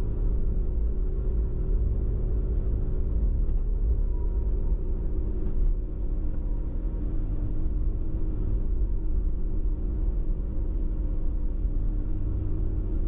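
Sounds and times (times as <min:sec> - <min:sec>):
van road and engine rumble: 0:00.0 - 0:13.0.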